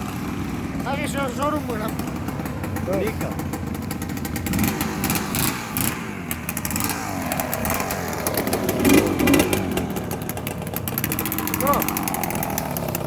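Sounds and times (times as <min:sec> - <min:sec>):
engine popping and clattering: 0:00.0 - 0:13.0
motocross engine revving: 0:00.0 - 0:13.0.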